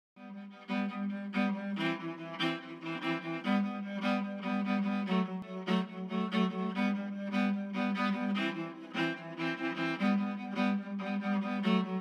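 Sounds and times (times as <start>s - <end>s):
bowed cello melody: 0.2s - 12.0s.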